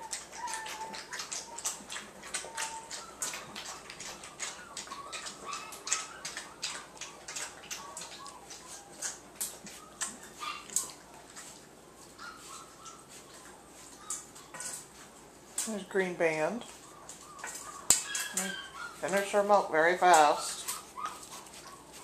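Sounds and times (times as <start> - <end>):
puppies whimpering: 0.0 - 15.2, 16.0 - 22.0
puppies scuffling: 0.0 - 22.0.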